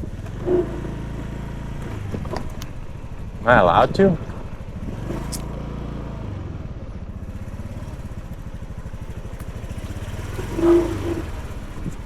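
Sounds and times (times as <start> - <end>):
scooter engine puttering: 0.0 - 12.0.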